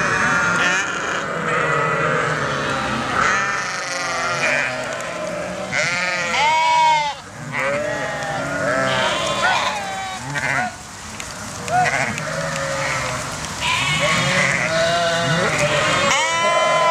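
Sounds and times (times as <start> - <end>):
sheep bleating: 0.0 - 10.8, 11.7 - 16.9.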